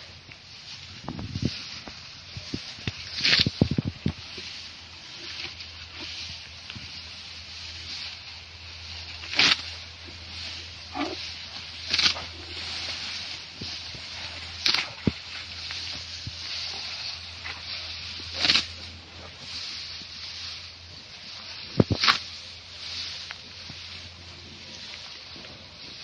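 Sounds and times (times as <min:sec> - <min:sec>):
background hiss and hum: 0:00.0 - 0:26.0.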